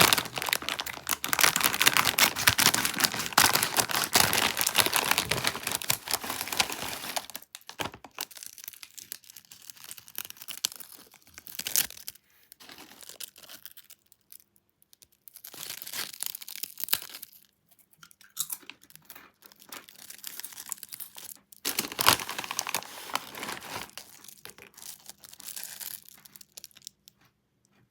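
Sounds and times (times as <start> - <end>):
plastic chip bag crinkling: 0.0 - 14.4, 18.8 - 27.1.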